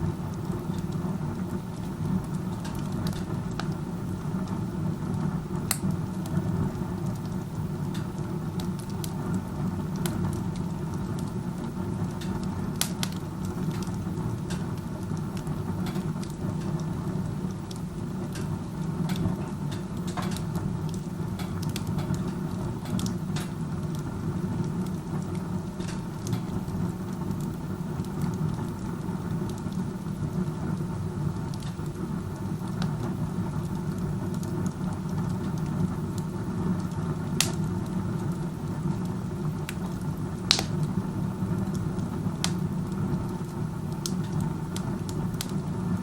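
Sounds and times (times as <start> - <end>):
burning wood crackling and popping: 0.0 - 46.0
low rumble of chimney draft: 0.0 - 46.0.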